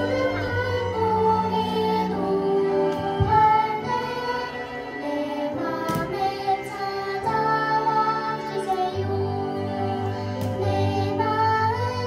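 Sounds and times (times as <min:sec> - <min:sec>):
children's worship song: 0:00.0 - 0:12.0
instrumental accompaniment: 0:00.0 - 0:12.0.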